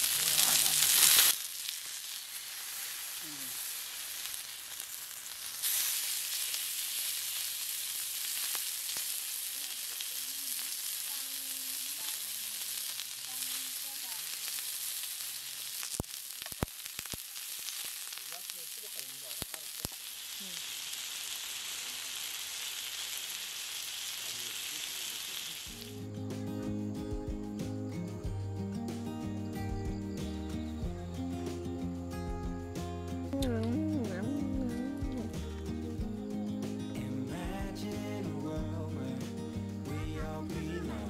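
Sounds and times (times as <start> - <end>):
steak sizzling in skillet: 0.0 - 26.1, 27.5 - 41.0.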